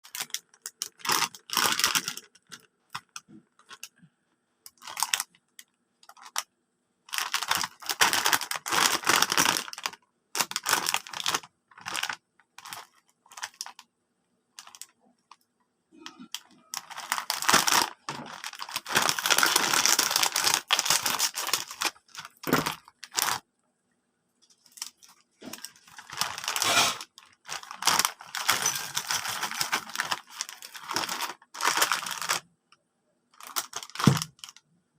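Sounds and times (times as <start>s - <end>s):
plastic snack bag crinkling: 0.0s - 4.0s, 4.7s - 6.5s, 7.1s - 13.9s, 14.6s - 15.4s, 16.0s - 23.4s, 24.5s - 32.5s, 33.4s - 34.6s.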